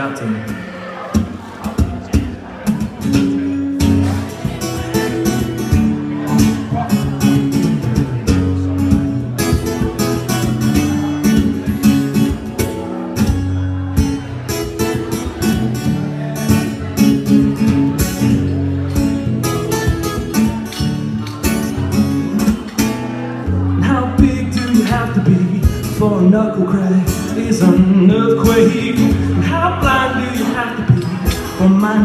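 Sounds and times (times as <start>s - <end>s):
acoustic guitar strumming chords: 0.0s - 32.0s.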